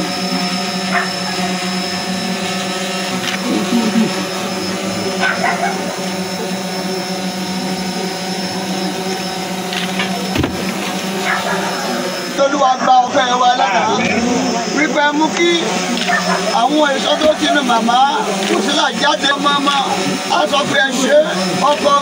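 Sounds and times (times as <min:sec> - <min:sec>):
faint murmuring voices: 0:00.0 - 0:22.0
steady droning hum: 0:00.0 - 0:22.0.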